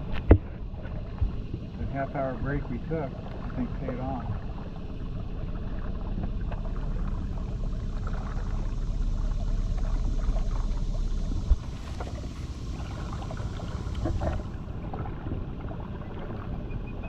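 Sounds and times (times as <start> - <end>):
boat low rumble: 0.0 - 17.0
water noise and splashes: 0.0 - 17.0.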